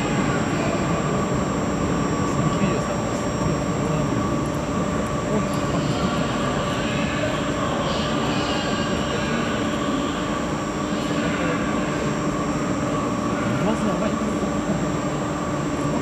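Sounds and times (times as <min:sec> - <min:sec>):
machinery humming with whining tones: 0:00.0 - 0:16.0.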